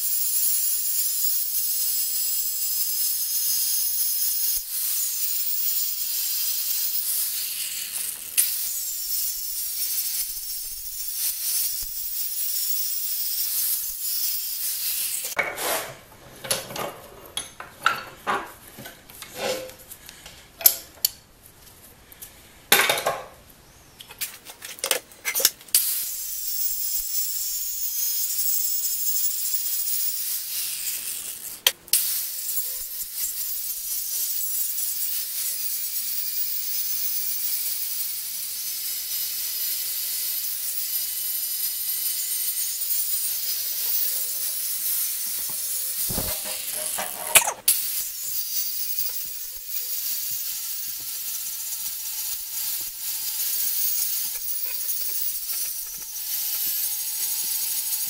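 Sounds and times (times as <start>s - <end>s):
angle grinder grinding steel: 0.0s - 15.4s, 25.3s - 58.0s.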